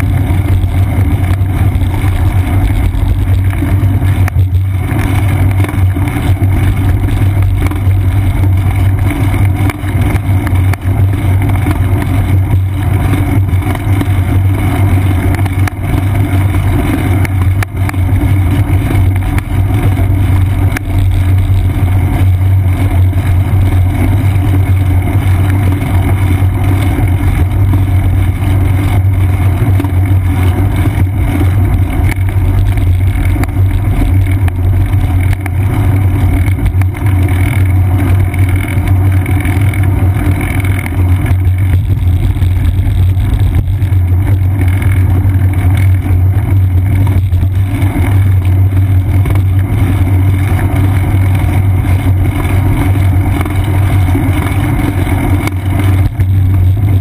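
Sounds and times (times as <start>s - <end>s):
road vibration rumble: 0.0s - 57.0s.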